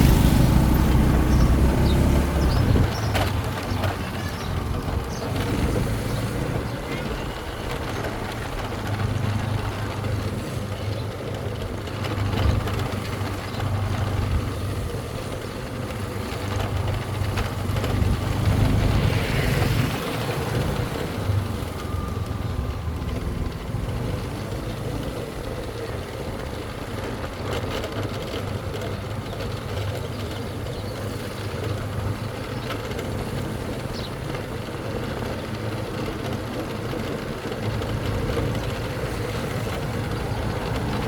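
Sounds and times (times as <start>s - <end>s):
motorcycle engine running: 0.0s - 41.0s
road and wind noise: 0.0s - 41.0s.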